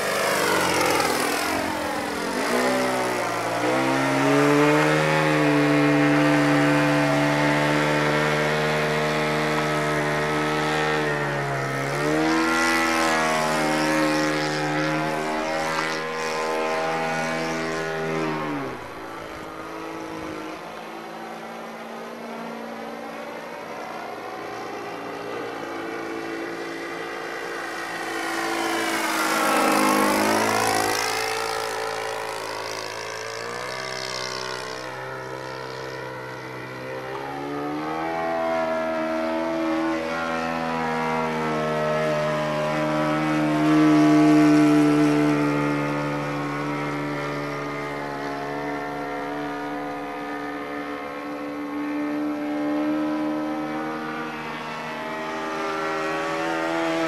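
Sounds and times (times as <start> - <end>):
model plane engine: 0.0 - 57.0.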